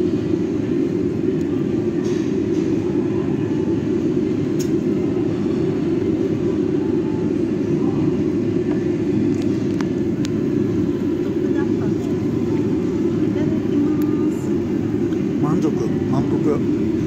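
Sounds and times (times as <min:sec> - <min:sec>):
ventilation fans roaring: 0:00.0 - 0:17.0.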